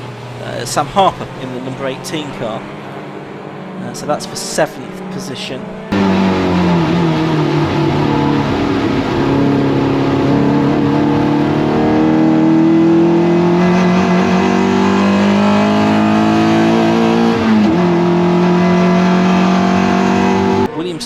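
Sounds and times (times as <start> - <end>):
race car engine accelerating: 0.0 - 21.0.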